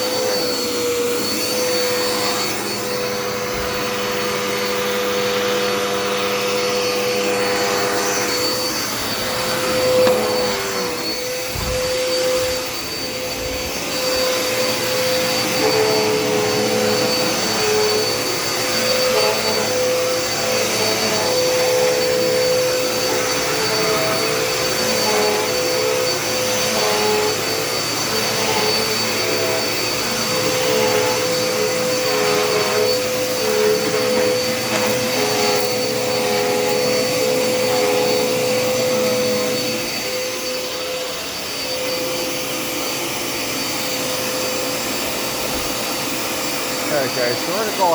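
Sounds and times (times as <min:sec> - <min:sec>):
upright vacuum motor whine: 0:00.0 - 0:47.9.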